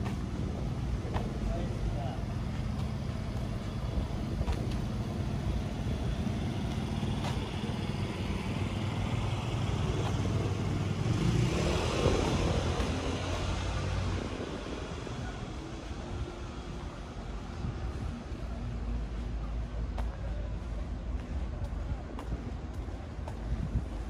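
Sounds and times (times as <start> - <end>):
street noise: 0.0 - 24.0
vehicle engine running: 0.0 - 24.0.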